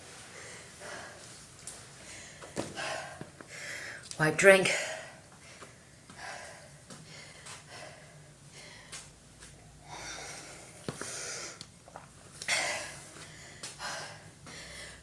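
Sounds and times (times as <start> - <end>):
woman breathing heavily: 0.0 - 15.0.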